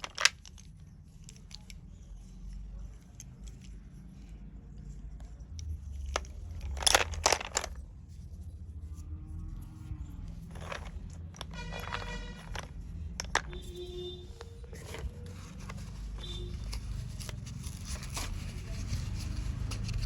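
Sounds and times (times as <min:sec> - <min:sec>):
slate pencils crunching: 0:00.0 - 0:08.8, 0:09.8 - 0:20.0.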